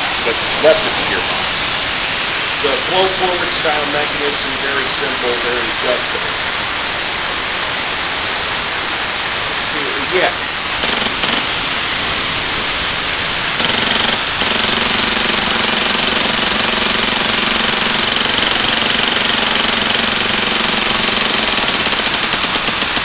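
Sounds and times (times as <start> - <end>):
buzzing rattle of air valve: 0.0 - 23.0
compressed air hissing: 0.0 - 23.0.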